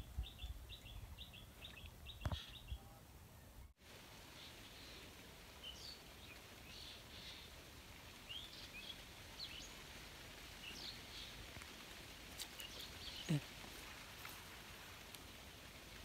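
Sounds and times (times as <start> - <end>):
small birds chirping: 0.0 - 3.7, 4.3 - 14.4
background hiss: 0.0 - 16.0.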